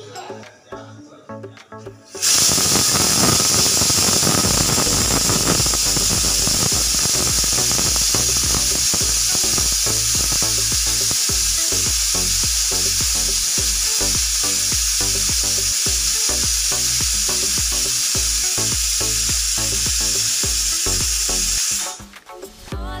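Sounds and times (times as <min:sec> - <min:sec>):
pressure cooker whistle hissing steam: 0:02.2 - 0:22.1.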